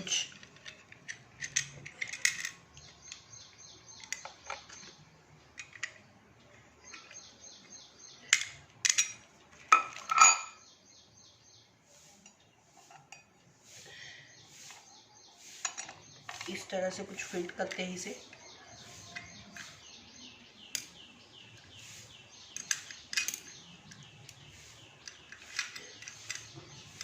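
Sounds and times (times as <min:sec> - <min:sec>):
metal parts clinking and scraping: 0:00.0 - 0:10.7, 0:14.6 - 0:20.1, 0:20.7 - 0:27.0.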